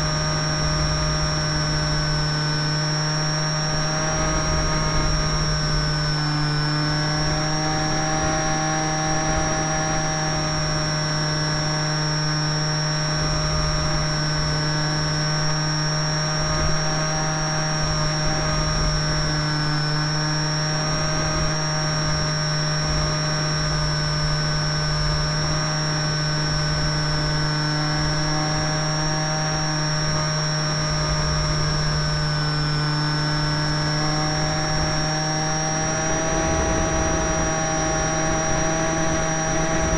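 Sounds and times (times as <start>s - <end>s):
model plane motor and propeller: 0.0s - 39.9s
wind rumble on microphone: 0.0s - 39.9s.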